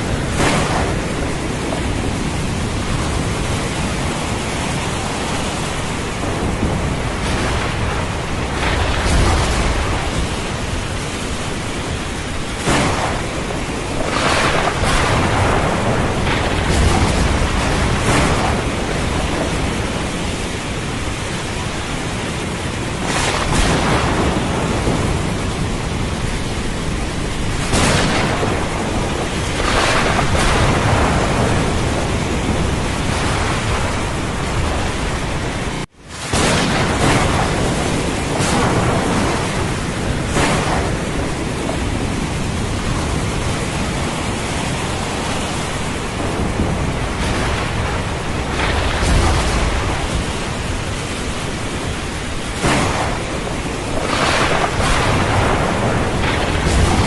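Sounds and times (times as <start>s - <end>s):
heavy rain hissing: 0.0s - 57.0s
thunder rumbling: 0.0s - 57.0s.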